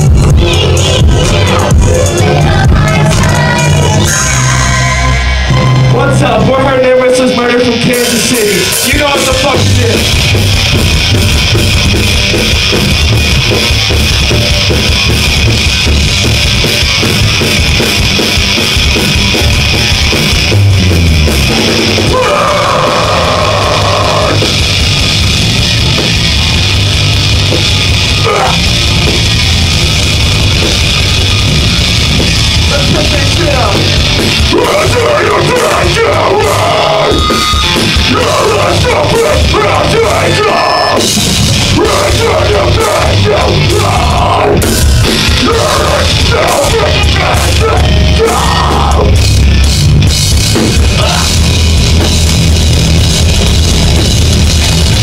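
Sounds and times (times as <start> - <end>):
bass guitar: 0.0 - 55.0
distorted electric guitars: 0.0 - 55.0
drums: 0.0 - 55.0.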